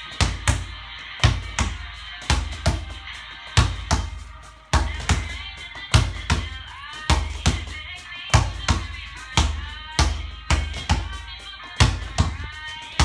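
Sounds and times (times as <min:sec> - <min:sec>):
music with punchy drum beat: 0:00.0 - 0:13.0.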